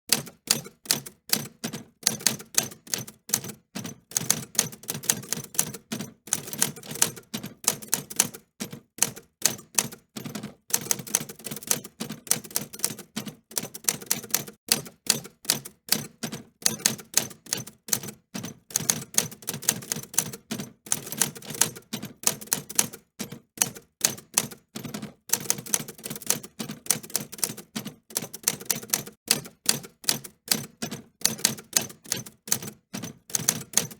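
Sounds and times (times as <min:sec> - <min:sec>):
typewriter keys clicking: 0:00.1 - 0:33.9.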